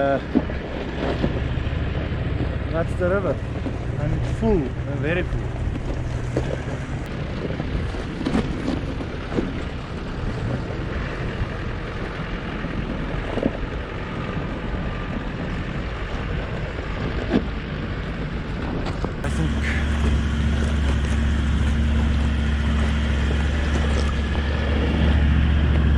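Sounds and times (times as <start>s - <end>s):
vehicle engine running at low revs: 0.0s - 25.9s.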